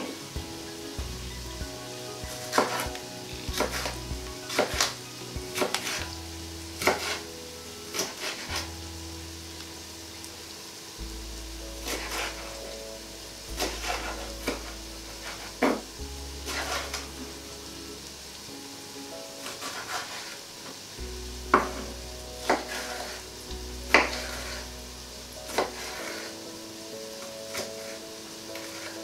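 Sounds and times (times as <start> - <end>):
light sizzling from pot: 0.0 - 29.0
quiet background music: 0.0 - 29.0.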